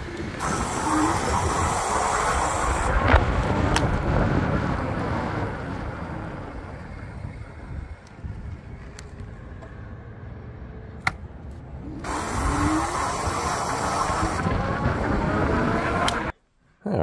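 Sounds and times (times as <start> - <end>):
e-bike motor rough noise: 0.0 - 9.2, 11.8 - 16.3.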